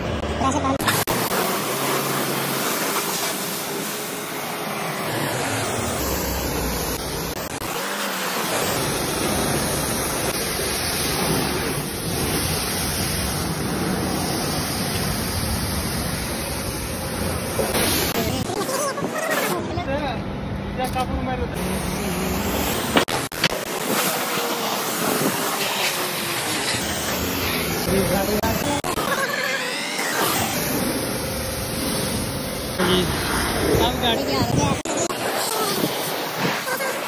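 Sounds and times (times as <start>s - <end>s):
pressure washer spraying water: 0.1s - 19.6s, 21.6s - 37.0s.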